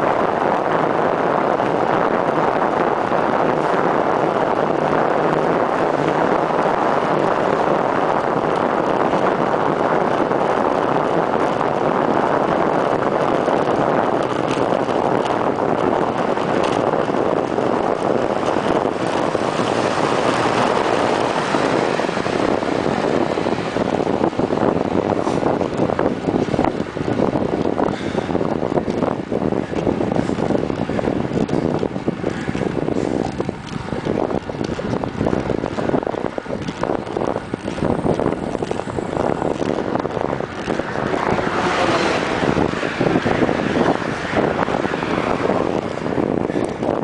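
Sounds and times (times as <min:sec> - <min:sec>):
wind rushing over microphone: 0:00.0 - 0:47.0.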